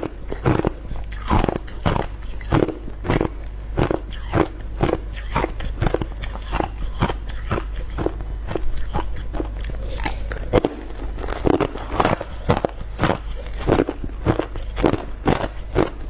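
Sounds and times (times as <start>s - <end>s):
ice being chewed and crunched: 0.0s - 16.0s.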